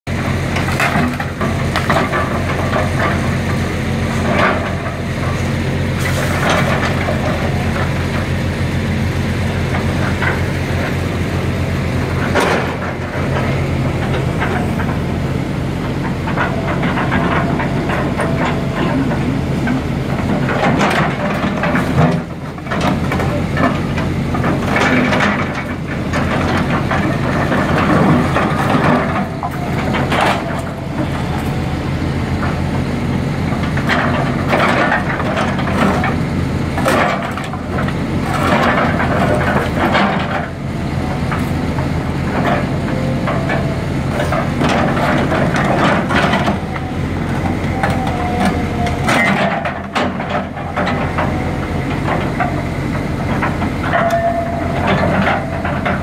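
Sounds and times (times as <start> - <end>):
excavator diesel engine running: 0.1 - 56.0.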